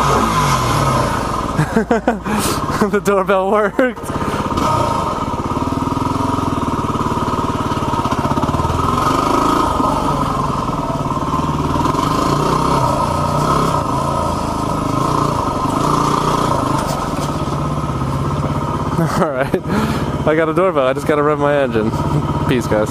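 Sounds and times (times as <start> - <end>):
dirt bike engine running: 0.0 - 22.9.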